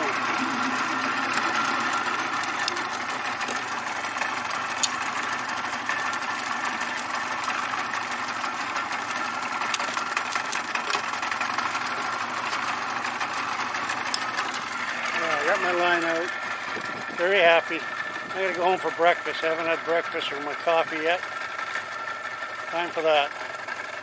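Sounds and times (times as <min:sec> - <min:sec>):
boat motor running: 0:00.0 - 0:24.0.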